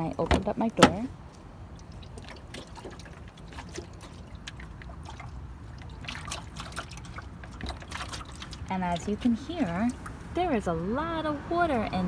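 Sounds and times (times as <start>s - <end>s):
water sloshing inside car door: 0.0s - 10.9s.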